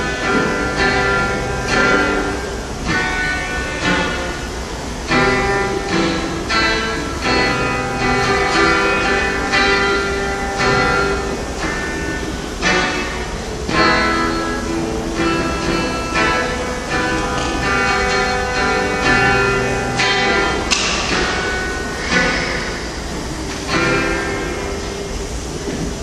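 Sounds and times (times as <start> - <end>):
electric guitar strumming chords: 0.0 - 26.0.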